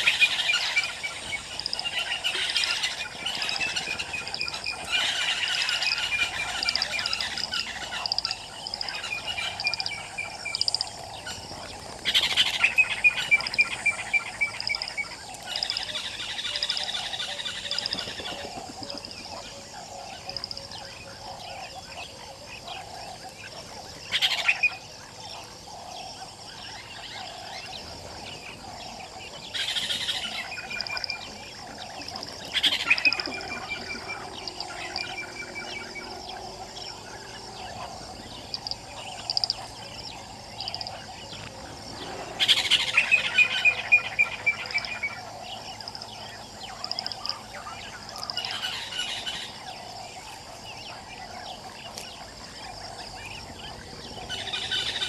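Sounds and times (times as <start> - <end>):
high steady bird trill: 0.0 - 21.6, 28.3 - 55.0
lower bird calls: 0.0 - 21.8, 25.8 - 55.0.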